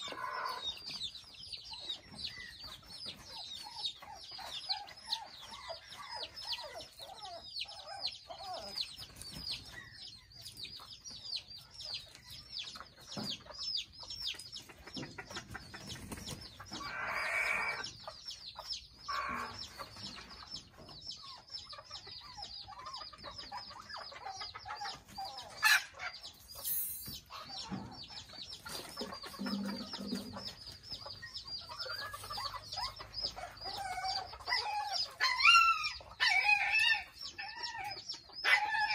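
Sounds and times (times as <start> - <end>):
chickens clucking and calling: 0.0 - 38.9
chicks peeping: 0.0 - 38.9.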